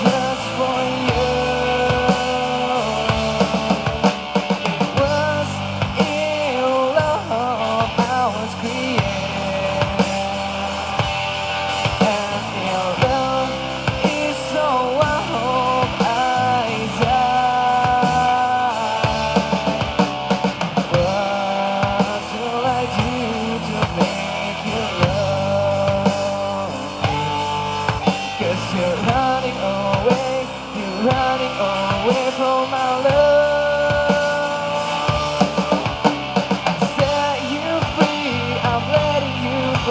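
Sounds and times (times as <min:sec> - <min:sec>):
lead guitar bent notes: 0:00.0 - 0:39.9
rock band playing live: 0:00.0 - 0:39.9.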